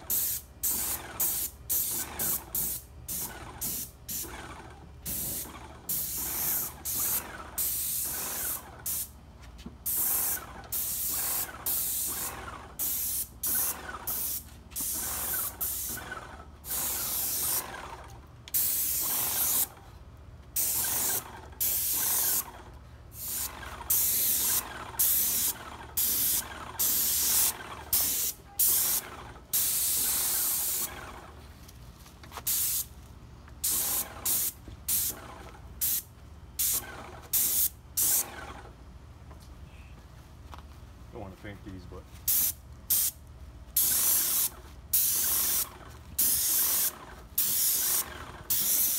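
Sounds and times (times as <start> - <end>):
paint sprayer hissing bursts: 0.0 - 9.2, 9.8 - 17.9, 18.5 - 19.8, 20.6 - 31.0, 32.4 - 32.9, 33.6 - 35.2, 35.8 - 38.4, 42.3 - 43.2, 43.8 - 48.9.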